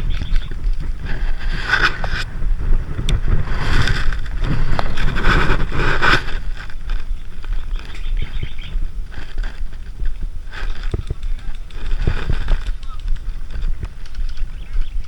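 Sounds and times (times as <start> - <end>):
rustling: 0.0 - 15.0
wind buffeting microphone: 0.0 - 15.0.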